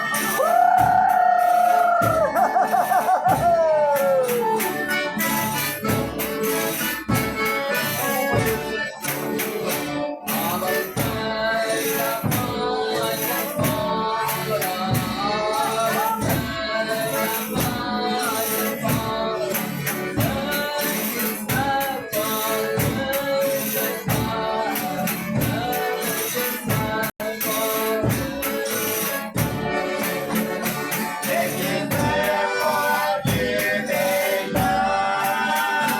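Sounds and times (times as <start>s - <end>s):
tambourine beat: 0.0s - 35.9s
voices singing: 0.0s - 35.9s.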